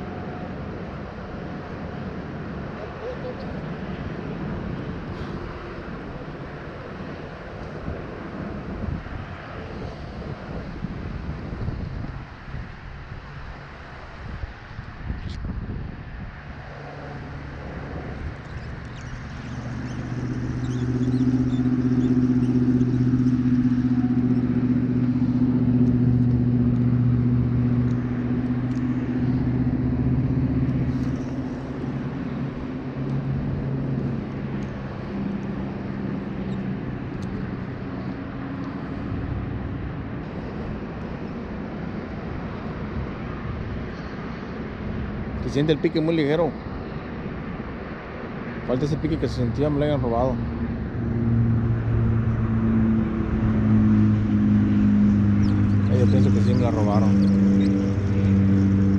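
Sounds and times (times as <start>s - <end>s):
vehicle engine hum: 0.0s - 58.9s.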